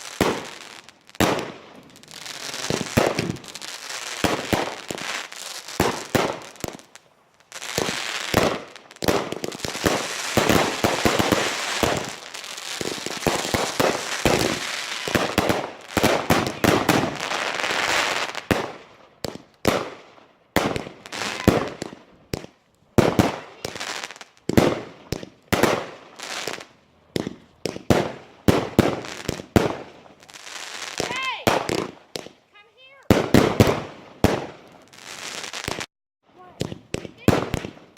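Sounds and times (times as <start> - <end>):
fireworks bangs and crackle: 0.0 - 37.9.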